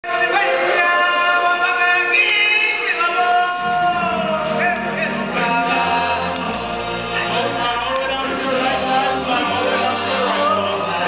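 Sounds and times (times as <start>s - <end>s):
choir-like singing: 0.0s - 11.0s.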